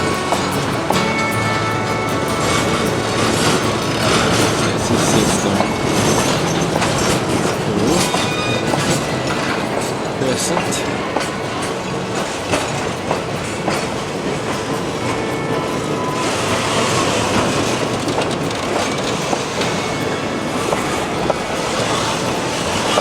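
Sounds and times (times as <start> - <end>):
train cars rumbling past: 0.0 - 23.0
wheels clicking over rail joints: 0.0 - 23.0.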